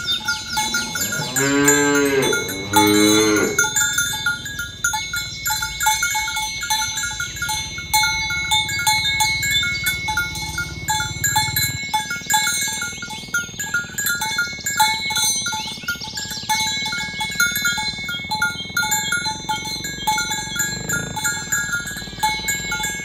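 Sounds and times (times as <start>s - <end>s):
cows mooing: 0.0s - 5.4s, 6.2s - 23.0s
tinkling bell notes: 0.0s - 23.0s.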